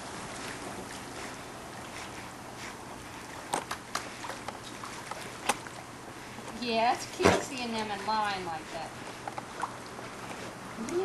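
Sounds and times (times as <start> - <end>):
pool water lapping and sloshing: 0.0 - 11.0.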